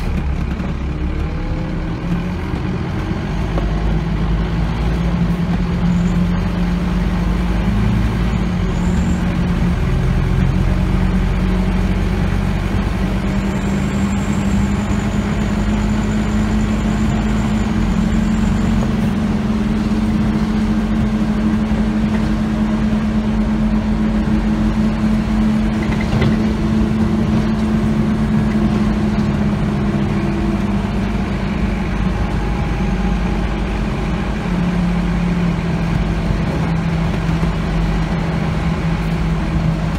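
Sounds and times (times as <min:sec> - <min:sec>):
diesel bus engine drone: 0:00.0 - 0:39.9
road noise: 0:00.0 - 0:39.9.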